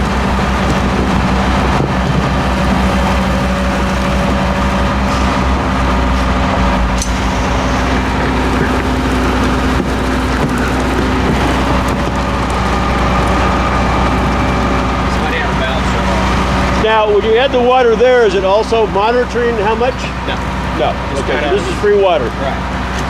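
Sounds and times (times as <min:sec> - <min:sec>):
truck engine droning: 0:00.0 - 0:23.0.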